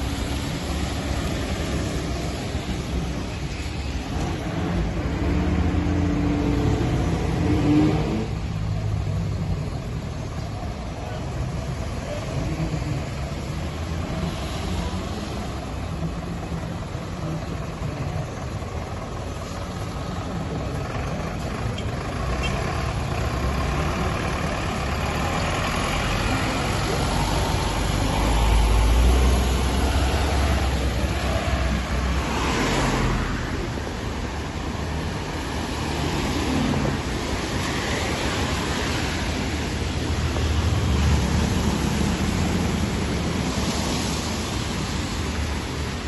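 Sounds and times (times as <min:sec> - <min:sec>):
tyres hissing on wet asphalt: 0:00.0 - 0:46.0
vehicle engines running: 0:00.0 - 0:46.0.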